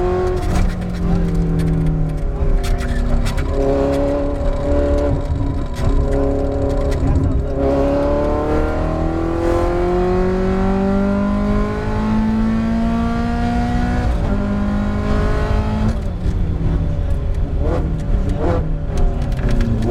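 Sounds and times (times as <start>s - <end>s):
race car engine accelerating: 0.0s - 16.2s.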